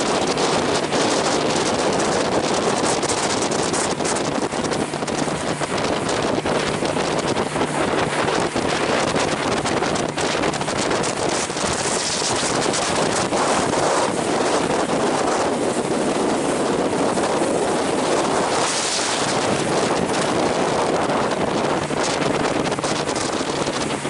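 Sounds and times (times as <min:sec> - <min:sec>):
motorboat engine running: 0:00.0 - 0:24.0
water splashing along hull: 0:00.0 - 0:24.0
wind buffeting microphone: 0:00.0 - 0:24.0.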